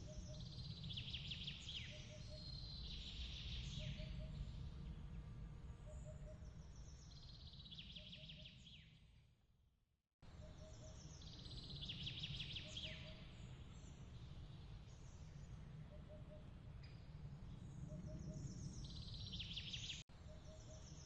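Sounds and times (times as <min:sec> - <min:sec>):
low rumble of wind: 0:00.0 - 0:09.4, 0:10.2 - 0:21.0.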